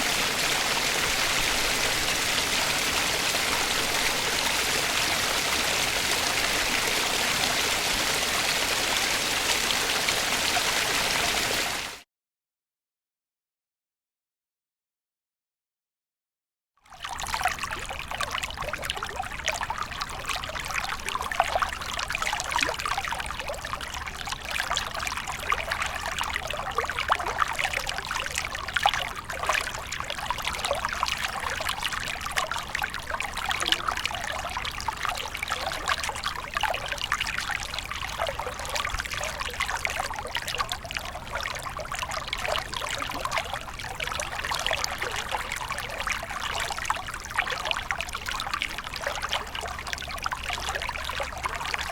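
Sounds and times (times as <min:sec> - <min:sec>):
small stream trickling: 0:00.0 - 0:12.0, 0:16.8 - 0:51.9.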